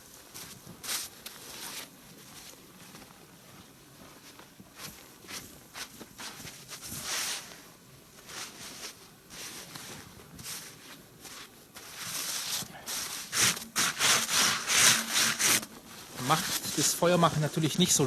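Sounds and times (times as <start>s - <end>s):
snow crunching and scraping: 0.3s - 3.0s, 4.2s - 18.0s.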